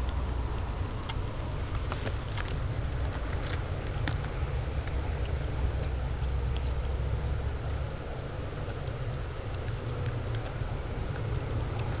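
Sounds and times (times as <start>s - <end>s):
cat crunching dry kibble: 0.0s - 12.0s.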